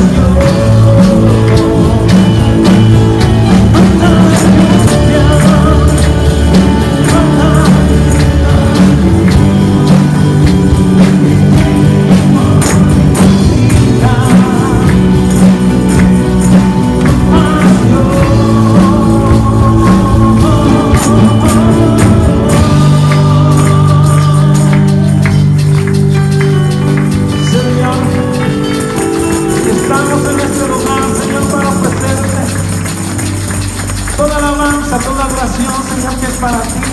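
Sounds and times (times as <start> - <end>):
person singing: 0.0 - 36.9
tambourines jingling: 0.0 - 36.9
worship band playing: 0.0 - 36.9.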